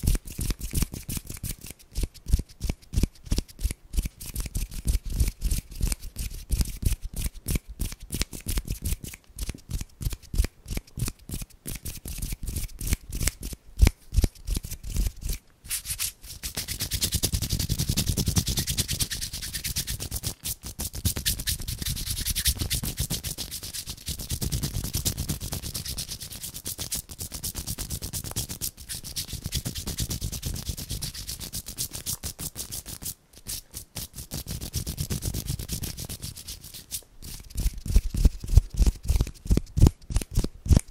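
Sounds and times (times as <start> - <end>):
palms rubbing together: 0.0 - 40.9
fingers clicking and crackling: 0.1 - 17.6, 18.4 - 40.9.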